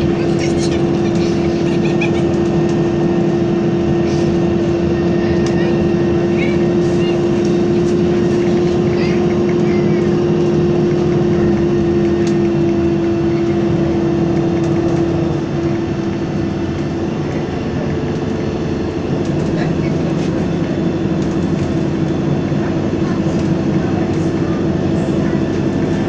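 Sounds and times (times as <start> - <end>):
bus engine whine and rumble: 0.0 - 26.0
road noise: 0.0 - 26.0.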